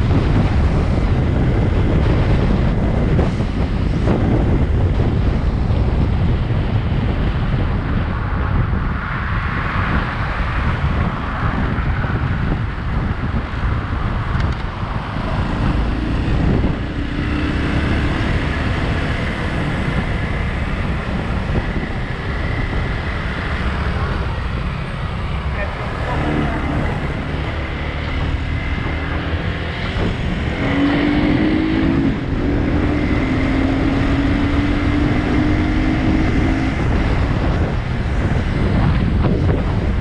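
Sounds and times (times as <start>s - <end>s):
motorcycle engine and road rumble: 0.0s - 40.0s
wind buffeting microphone: 0.0s - 40.0s.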